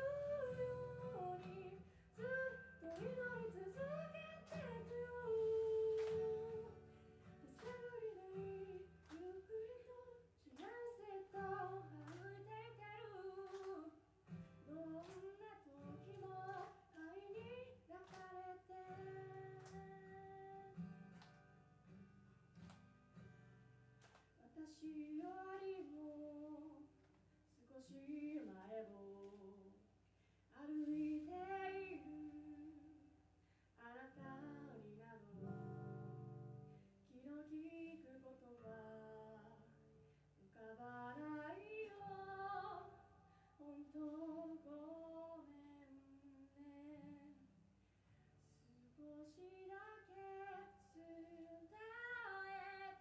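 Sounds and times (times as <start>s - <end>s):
woman singing a ballad: 0.0s - 14.0s, 14.6s - 20.8s, 24.4s - 29.8s, 30.5s - 33.1s, 33.8s - 47.6s, 48.4s - 53.0s
acoustic guitar: 0.0s - 53.0s.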